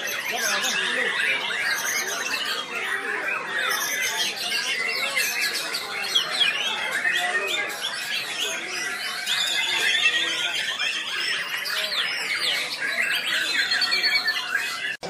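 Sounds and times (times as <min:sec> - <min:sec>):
songbirds chirping chorus: 0:00.0 - 0:15.0.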